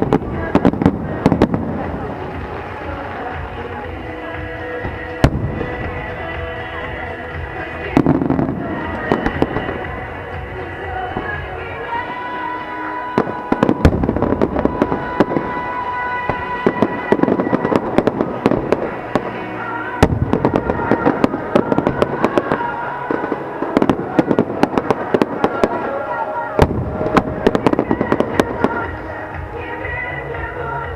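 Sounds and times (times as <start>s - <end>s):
fireworks bangs: 0.0s - 30.0s
fireworks crackling: 0.0s - 30.9s
music with long held notes: 0.0s - 30.9s.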